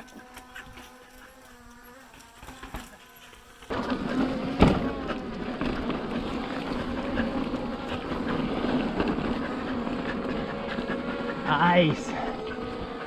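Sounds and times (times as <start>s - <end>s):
mountain bike rolling over rock: 0.0s - 11.2s.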